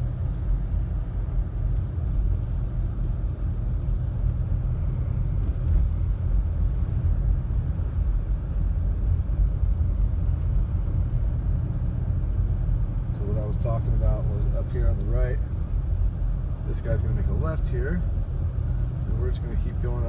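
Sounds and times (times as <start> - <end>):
car driving interior rumble: 0.0 - 20.0.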